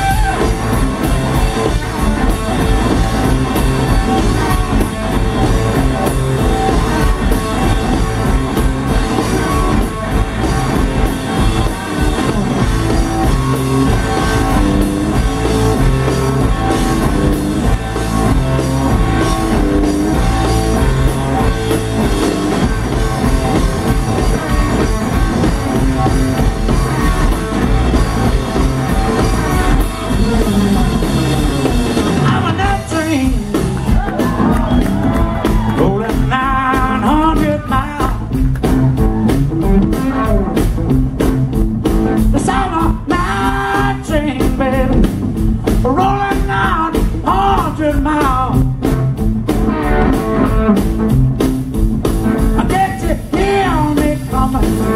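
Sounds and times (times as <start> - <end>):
blues-rock band playing: 0.0 - 54.9
electric guitar: 0.0 - 54.9.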